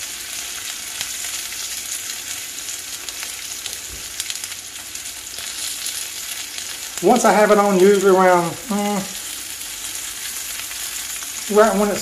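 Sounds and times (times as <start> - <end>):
squash sizzling in hot oil: 0.0 - 12.0.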